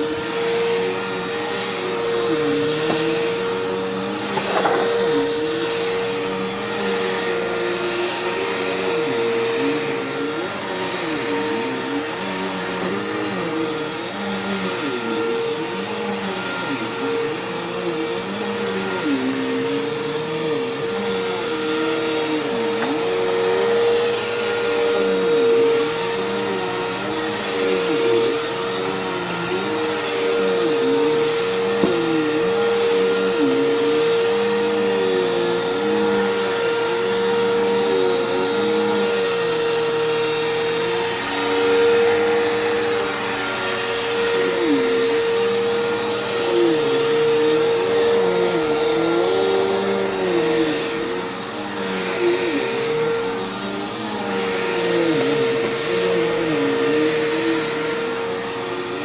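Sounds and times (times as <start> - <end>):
vacuum cleaner on carpet: 0.0 - 59.0.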